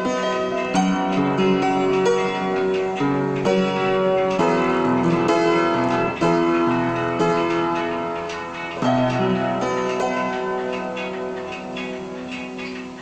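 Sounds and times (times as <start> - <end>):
plucked string instrument music: 0.0 - 13.0.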